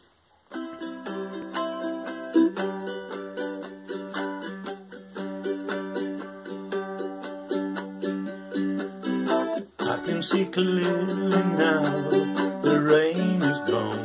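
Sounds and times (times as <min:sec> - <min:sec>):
ukulele strumming: 0:00.0 - 0:14.0.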